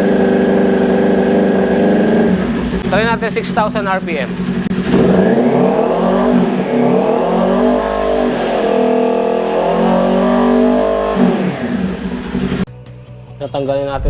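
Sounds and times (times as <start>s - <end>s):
motorcycle engine revving: 0.0s - 12.7s.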